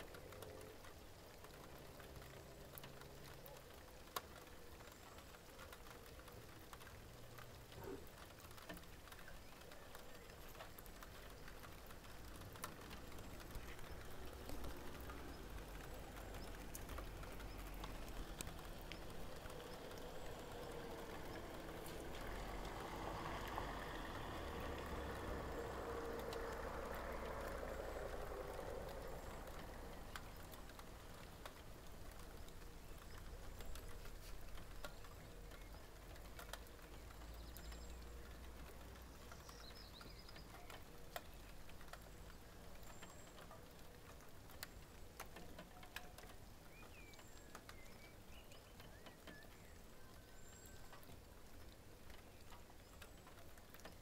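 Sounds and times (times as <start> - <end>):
raindrops pattering: 0.0 - 54.0.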